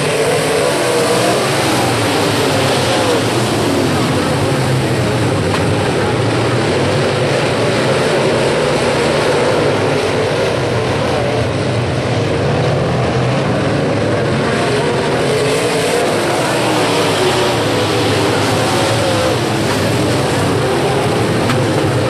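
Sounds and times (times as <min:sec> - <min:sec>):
race car engines roaring: 0:00.0 - 0:22.0.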